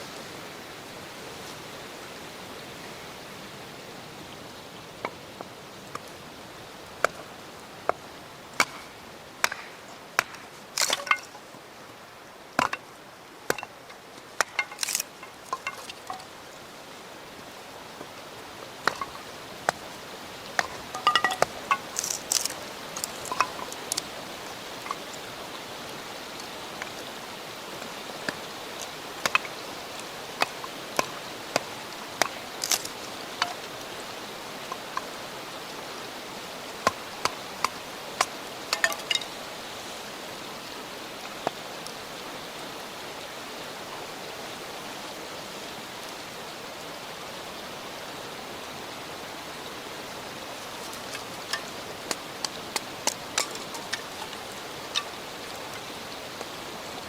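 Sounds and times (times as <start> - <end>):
campfire crackling: 4.3 - 43.0, 49.0 - 57.0.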